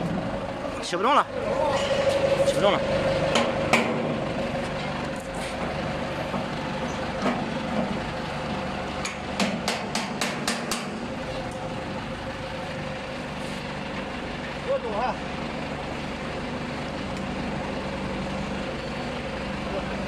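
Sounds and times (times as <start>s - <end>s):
forklift engine idling: 0.0s - 20.0s.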